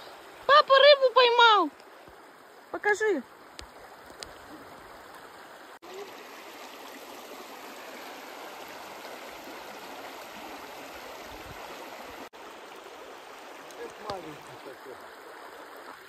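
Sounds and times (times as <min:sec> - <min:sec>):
stream rushing water: 0:00.0 - 0:16.0.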